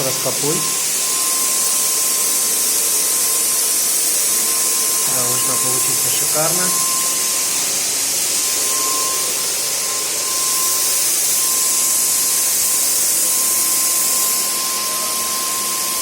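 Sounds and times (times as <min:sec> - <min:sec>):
paint sprayer hissing: 0:00.0 - 0:16.0.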